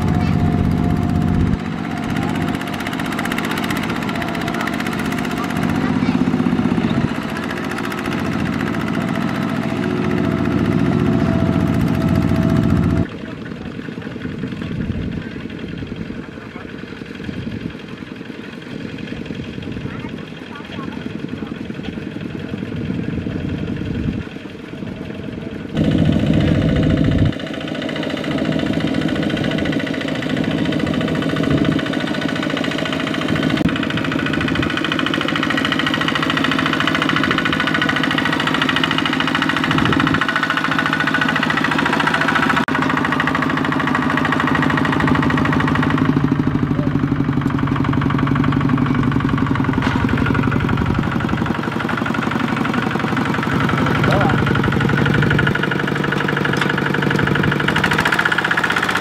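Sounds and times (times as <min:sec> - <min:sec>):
diesel engine knocking: 0:00.0 - 0:59.0.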